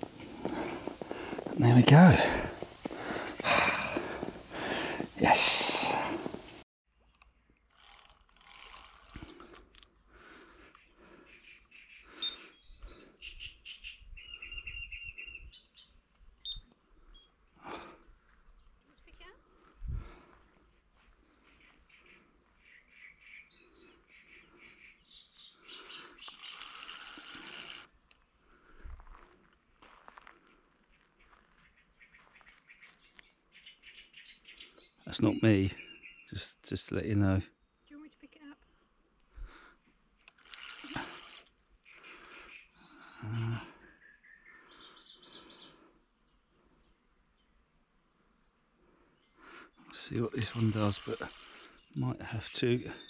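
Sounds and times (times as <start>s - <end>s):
birds calling: 0.0s - 8.0s, 8.6s - 28.8s, 30.8s - 53.0s.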